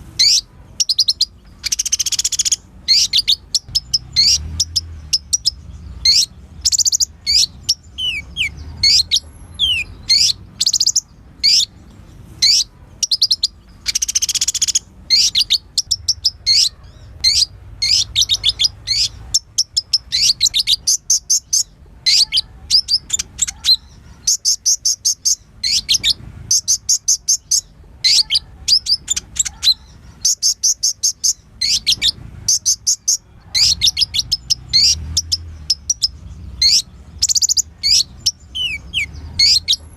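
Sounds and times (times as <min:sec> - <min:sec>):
bird singing chips and trills: 0:00.2 - 0:39.9.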